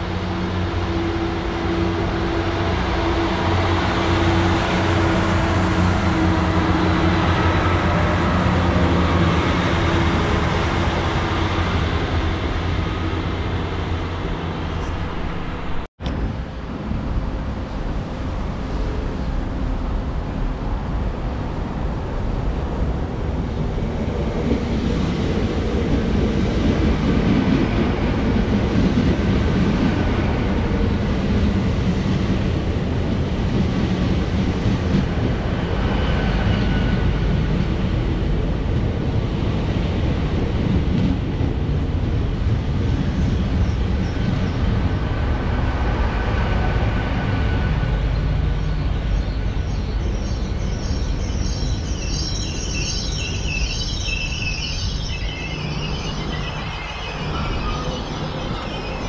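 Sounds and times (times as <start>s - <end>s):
diesel train engine rumble: 0.0s - 59.0s.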